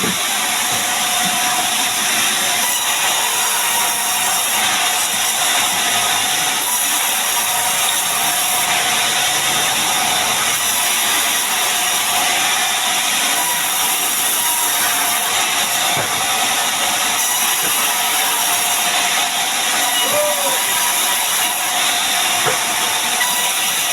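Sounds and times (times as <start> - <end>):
power saw cutting timber: 0.0 - 23.9.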